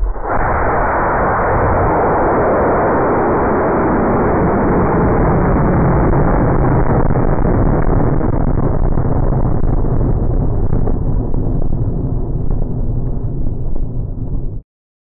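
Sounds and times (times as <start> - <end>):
rocket motor roaring: 0.0 - 14.2.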